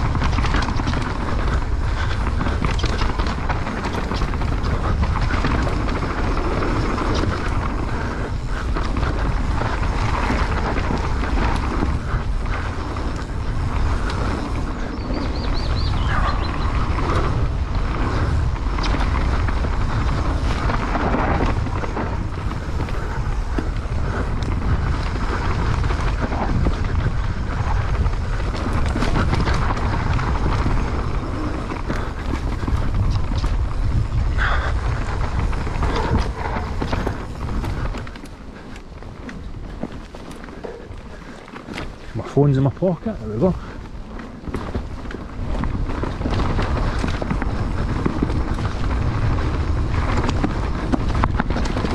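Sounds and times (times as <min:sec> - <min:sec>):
bike clicks and rattles: 0:00.0 - 0:51.9
bike tyre noise: 0:00.0 - 0:51.9
wind buffeting microphone: 0:00.0 - 0:51.9.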